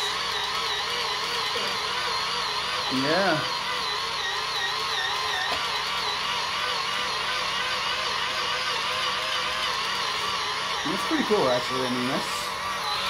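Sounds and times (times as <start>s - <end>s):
toy electric motor whirring: 0.0s - 13.0s.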